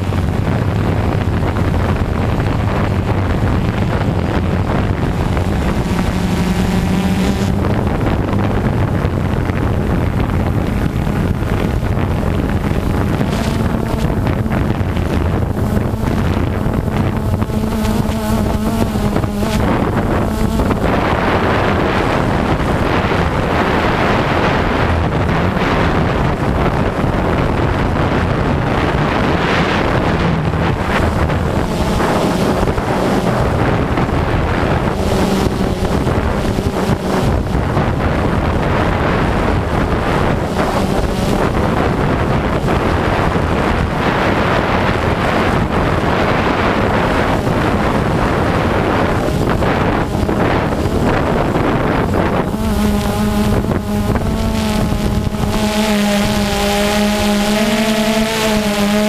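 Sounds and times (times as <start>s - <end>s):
drone propellers whirring: 0.0s - 59.0s
wind buffeting microphone: 0.0s - 59.0s.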